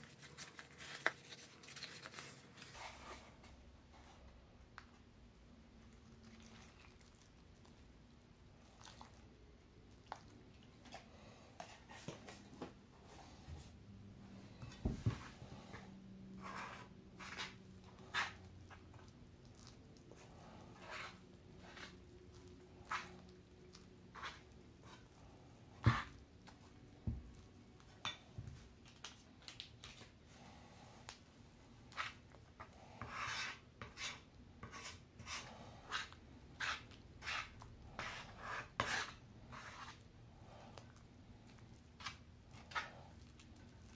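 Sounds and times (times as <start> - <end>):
soft wet squishes: 0.2 - 16.0, 16.8 - 32.8, 38.6 - 43.9.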